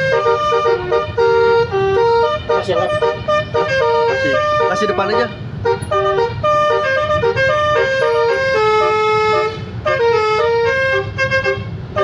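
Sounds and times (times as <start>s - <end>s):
multi-tone bus horn melody: 0.0s - 12.0s.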